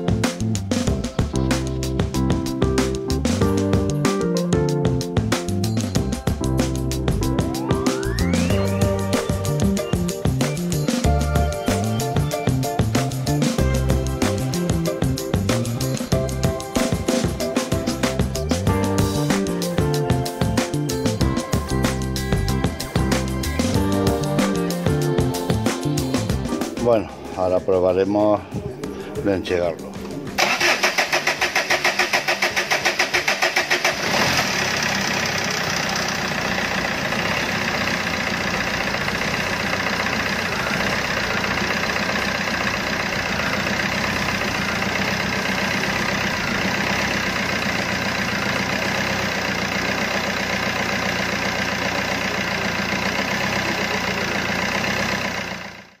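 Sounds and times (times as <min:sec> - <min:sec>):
diesel engine idling: 0:04.8 - 0:27.7, 0:30.1 - 0:56.0
diesel engine cranking: 0:05.2 - 0:27.5, 0:29.9 - 0:56.0.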